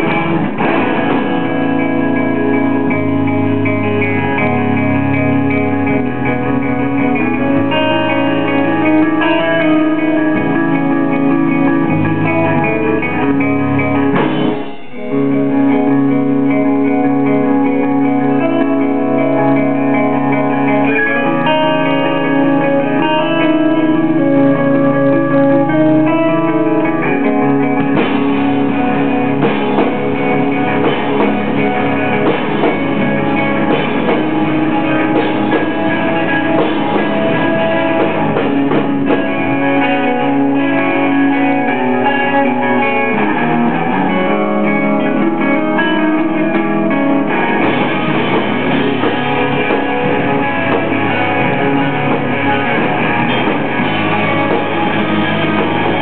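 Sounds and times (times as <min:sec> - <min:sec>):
heavy drumming: 0:00.0 - 0:56.0
ringing guitar chords: 0:00.0 - 0:56.0
rock band playing: 0:00.0 - 0:56.0.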